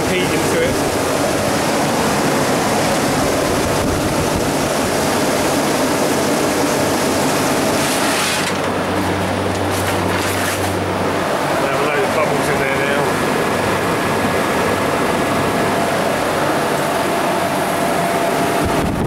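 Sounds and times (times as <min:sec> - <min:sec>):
compressor running: 0:00.0 - 0:19.0.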